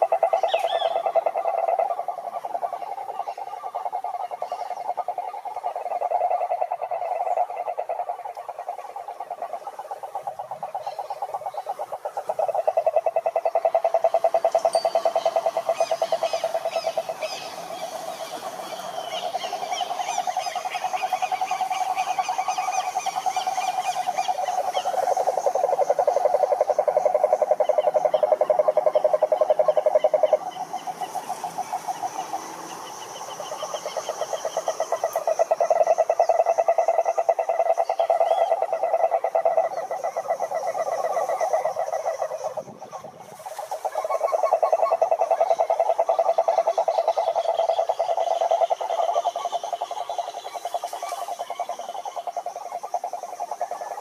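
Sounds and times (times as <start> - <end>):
frogs trilling: 0.0 - 54.0.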